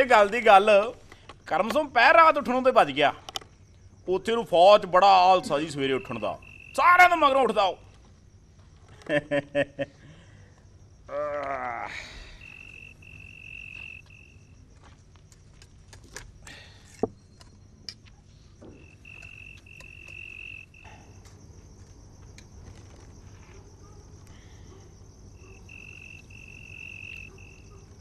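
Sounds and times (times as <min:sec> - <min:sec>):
crickets chirping in trills: 0:00.0 - 0:28.0.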